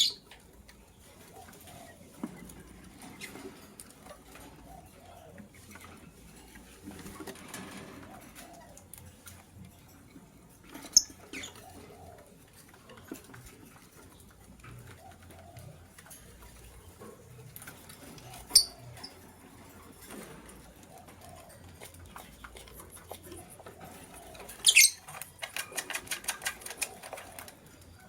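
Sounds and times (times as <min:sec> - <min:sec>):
light scratching and pattering: 0:00.1 - 0:28.0.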